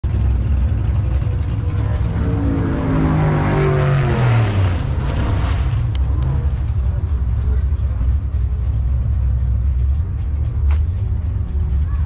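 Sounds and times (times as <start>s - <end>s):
low rumble: 0.0s - 12.0s
motor vehicle passing: 0.0s - 12.0s.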